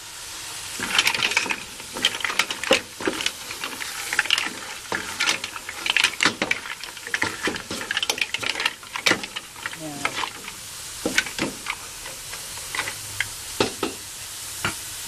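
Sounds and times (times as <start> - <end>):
steady sizzle: 0.0 - 15.0
shells clattering in metal pot: 0.7 - 14.0.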